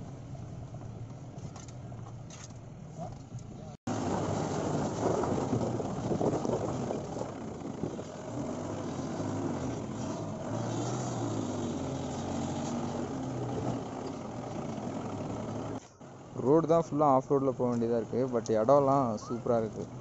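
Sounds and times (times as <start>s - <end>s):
vehicle engine in low gear: 0.0s - 20.0s.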